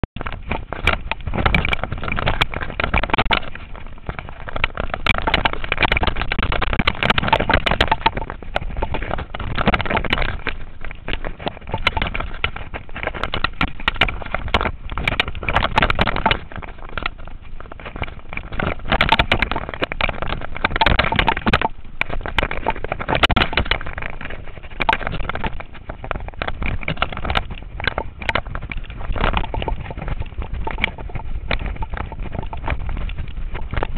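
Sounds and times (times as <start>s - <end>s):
mountain bike clattering over stones: 0.2s - 33.9s
wind rushing on microphone: 0.2s - 33.9s.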